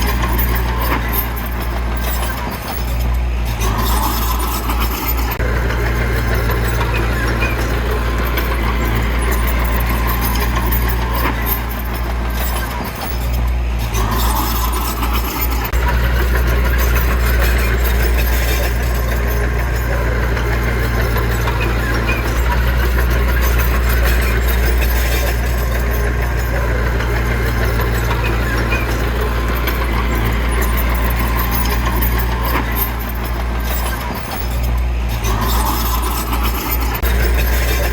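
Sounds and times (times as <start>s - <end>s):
diesel engine deep drone: 0.0s - 37.9s.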